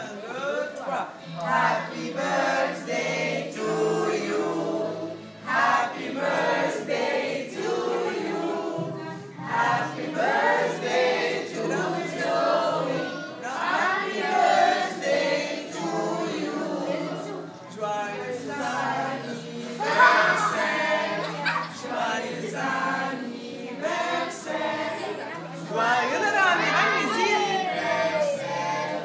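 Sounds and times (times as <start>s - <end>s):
group of voices singing: 0.0s - 29.0s.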